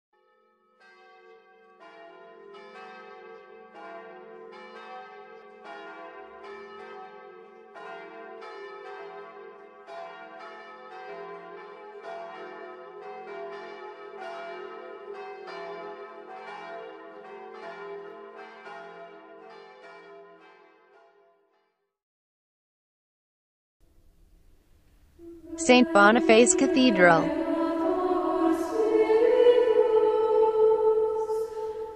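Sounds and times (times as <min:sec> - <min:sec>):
church bells ringing: 0:00.2 - 0:21.6, 0:24.1 - 0:31.9.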